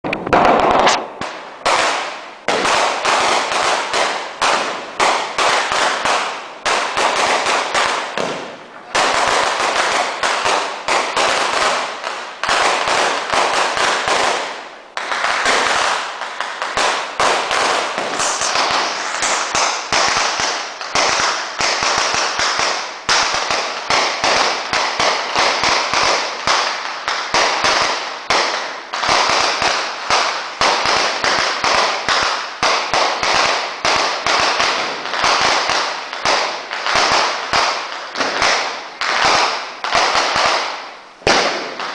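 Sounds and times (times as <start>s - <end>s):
firecrackers banging rapidly: 0.0s - 41.9s.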